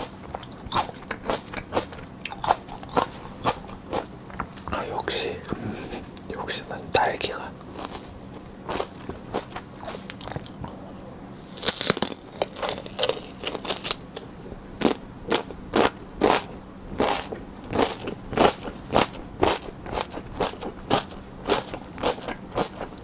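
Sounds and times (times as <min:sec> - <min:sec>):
crunchy chewing: 0:00.0 - 0:06.4, 0:07.3 - 0:23.0.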